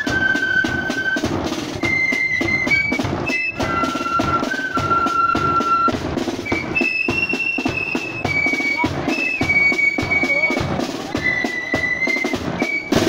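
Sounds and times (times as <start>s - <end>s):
flutes playing melody: 0.0s - 13.0s
side drums: 0.0s - 13.0s.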